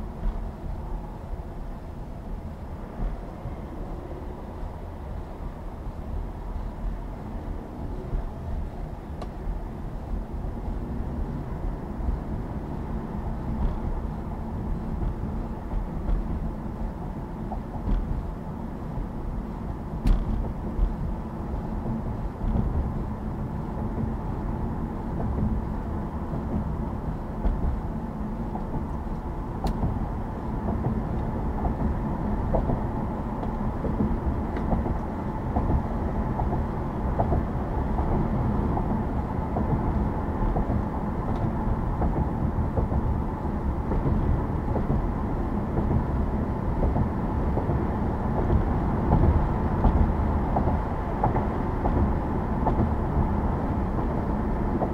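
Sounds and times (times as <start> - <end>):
car tyres and engine rumble: 0.0 - 54.9.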